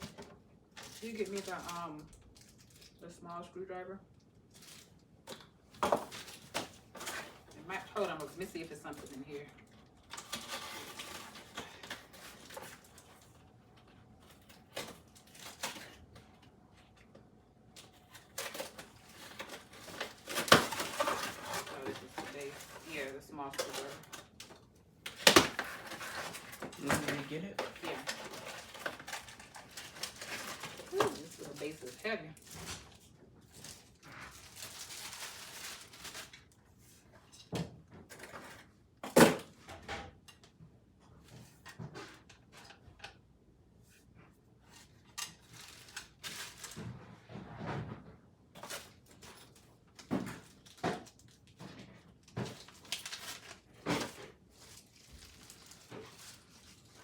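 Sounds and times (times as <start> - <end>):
rustling packaging: 0.0 - 3.3, 4.3 - 37.5, 44.6 - 47.3, 48.5 - 57.0.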